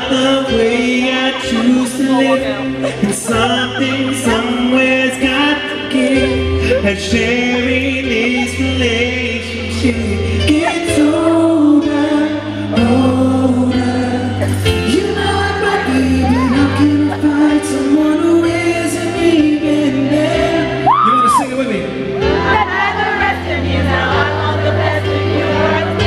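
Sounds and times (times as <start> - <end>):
man singing into microphone: 0.0 - 22.5.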